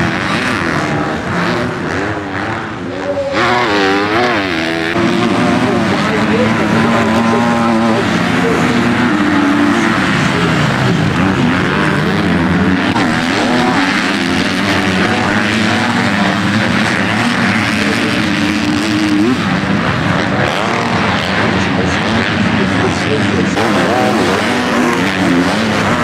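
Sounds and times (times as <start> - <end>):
motocross bikes revving: 0.0 - 26.0.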